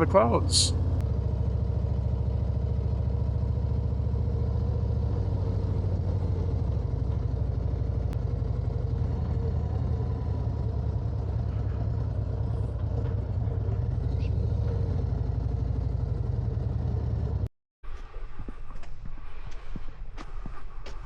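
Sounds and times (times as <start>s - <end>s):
motorcycle engine running: 0.0s - 17.5s.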